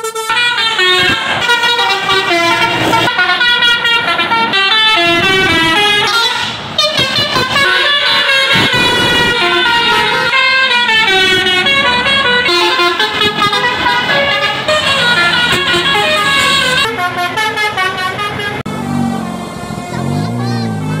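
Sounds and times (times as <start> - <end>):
musical air horn melody: 0.0 - 18.8.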